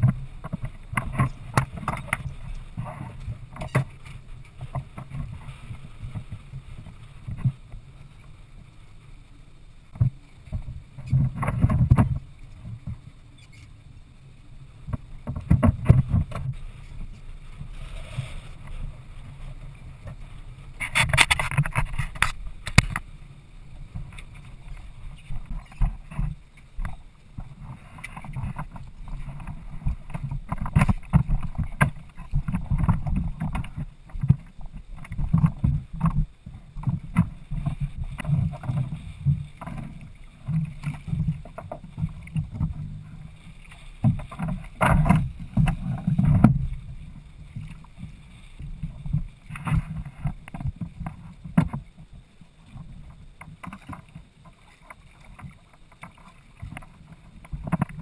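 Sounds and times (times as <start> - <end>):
water slapping a hull: 0.0 - 8.6, 9.9 - 13.6, 14.8 - 23.2, 23.8 - 58.0
wind rumbling on microphone: 0.0 - 58.0.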